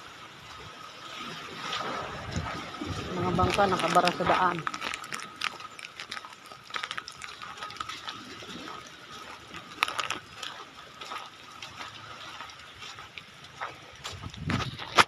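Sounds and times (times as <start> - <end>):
sea water sloshing on shore: 0.0 - 15.0
footsteps on gravel: 2.4 - 15.0.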